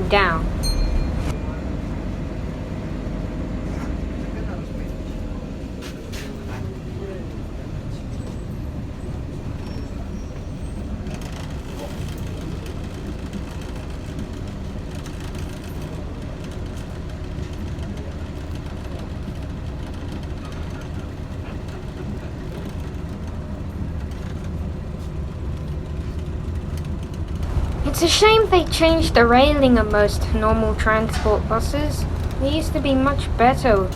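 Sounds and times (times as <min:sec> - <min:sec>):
bus engine running: 0:00.0 - 0:33.9
low road rumble: 0:00.0 - 0:33.9.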